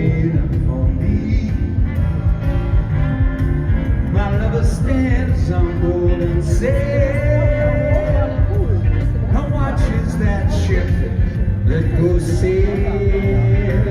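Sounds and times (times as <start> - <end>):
man singing: 0.0 - 2.9, 3.9 - 13.9
live pop-rock band playing: 0.0 - 13.9.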